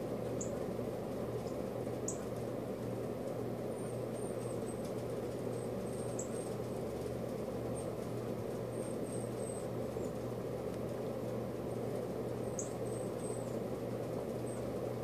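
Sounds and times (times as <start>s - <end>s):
nestlings peeping: 0.0s - 15.0s
steady low hum: 0.0s - 15.0s.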